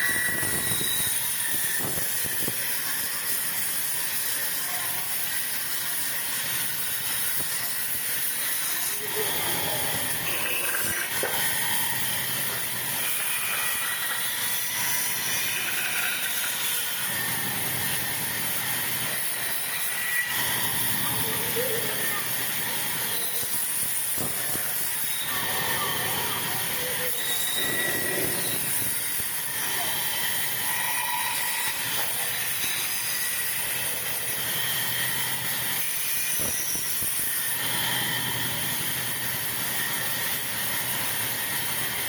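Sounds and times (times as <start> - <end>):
sawmill machinery running: 0.0 - 42.0.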